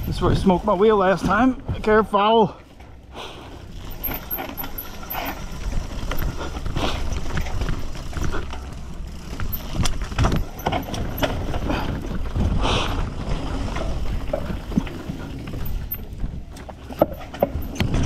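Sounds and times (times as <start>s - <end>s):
wind rumbling on microphone: 0.0s - 2.0s, 4.9s - 18.0s
bike rattling over bumps: 0.0s - 18.0s.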